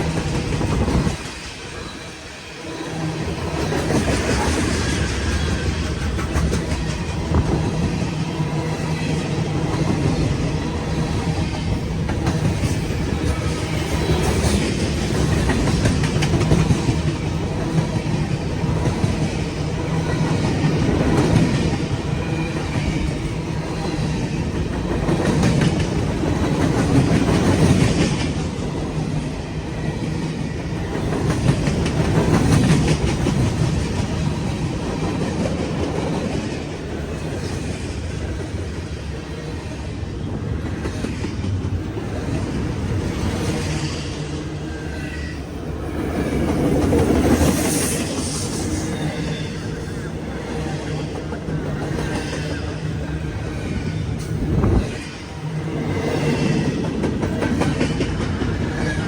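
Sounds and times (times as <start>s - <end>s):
freight train wheels clattering: 3.0s - 59.0s.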